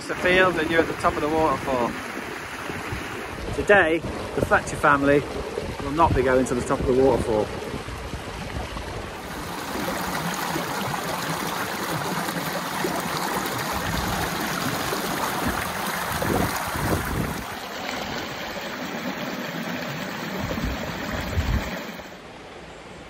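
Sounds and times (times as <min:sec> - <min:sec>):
waterfall rushing: 0:00.0 - 0:05.8, 0:09.2 - 0:22.2.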